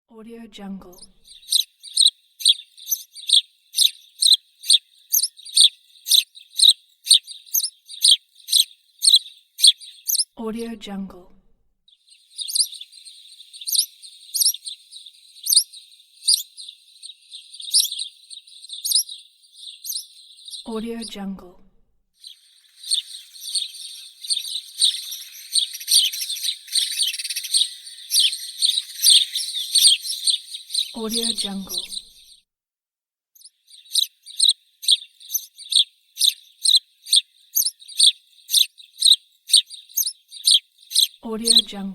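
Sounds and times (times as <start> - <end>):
sparrow chirping: 0.9 - 10.4, 11.9 - 21.2, 22.2 - 32.4, 33.4 - 41.9.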